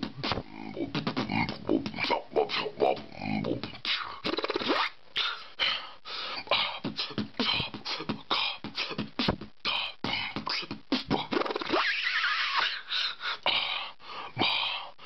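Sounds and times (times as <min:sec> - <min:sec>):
wavering vocal sound: 0:00.0 - 0:14.9
person beatboxing: 0:00.0 - 0:15.0.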